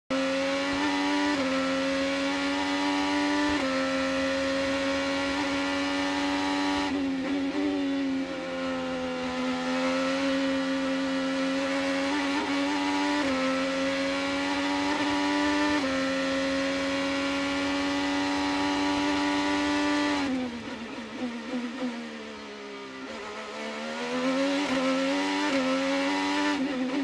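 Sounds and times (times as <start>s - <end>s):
race car engine at high revs: 0.1s - 27.0s.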